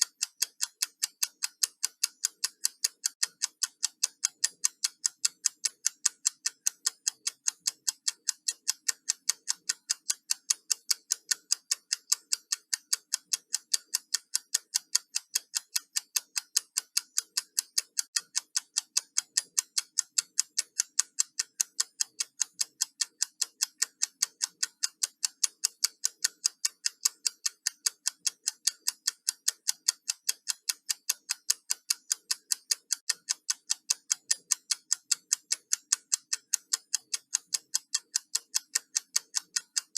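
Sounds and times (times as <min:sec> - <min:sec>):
timer ticking fast: 0:00.0 - 0:39.9.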